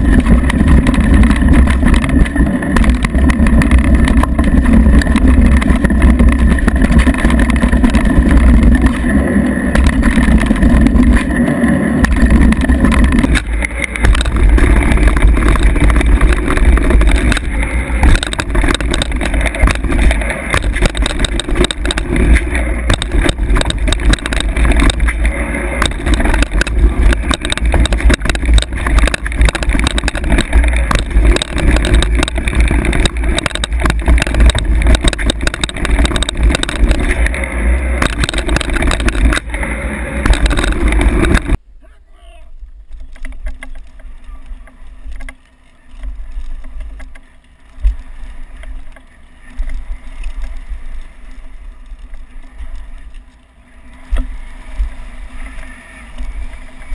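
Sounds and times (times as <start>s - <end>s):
bike clattering and rattling: 0.0s - 41.6s, 42.7s - 56.9s
tyre noise on dirt: 0.0s - 56.9s.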